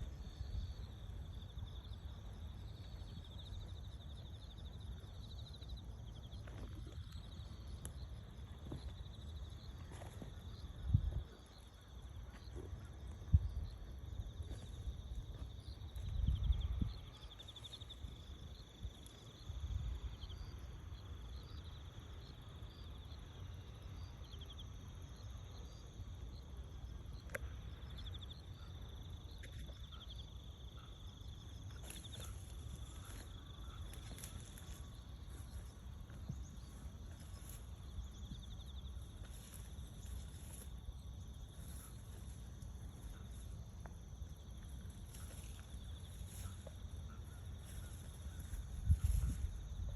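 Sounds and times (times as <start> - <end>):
insect chorus buzzing and trilling: 0.0 - 49.9.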